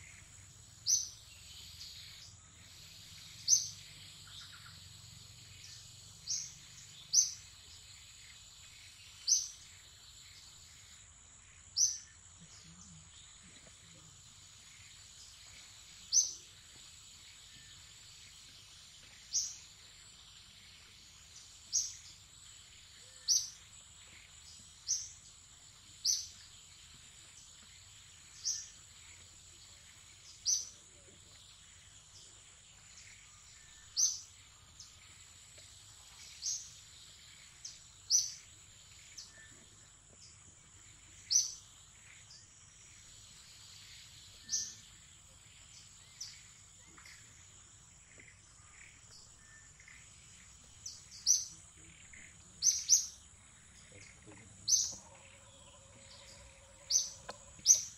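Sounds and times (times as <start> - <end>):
bird chirping: 0.0 - 57.9
insect drone: 0.0 - 57.9.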